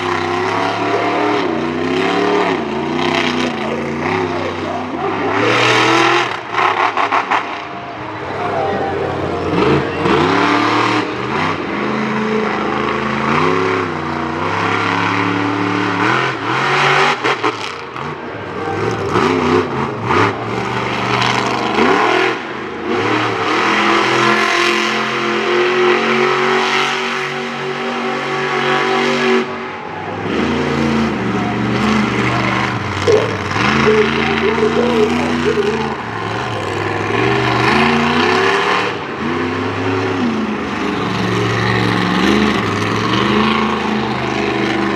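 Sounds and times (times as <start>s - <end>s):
monster truck engines revving: 0.0s - 44.9s.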